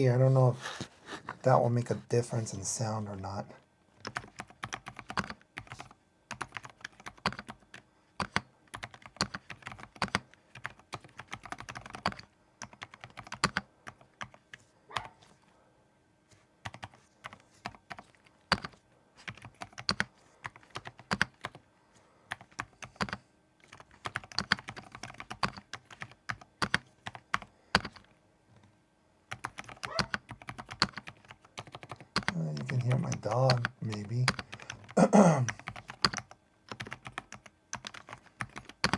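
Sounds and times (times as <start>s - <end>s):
mechanical keyboard typing: 4.0s - 15.1s, 16.6s - 21.6s, 22.3s - 28.1s, 29.3s - 38.9s.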